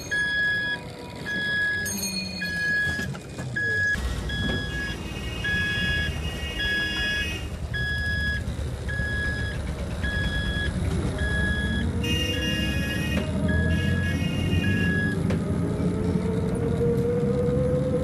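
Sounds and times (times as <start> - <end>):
electronic vehicle beeper: 0.0 - 15.2
street traffic rumble: 0.0 - 18.0.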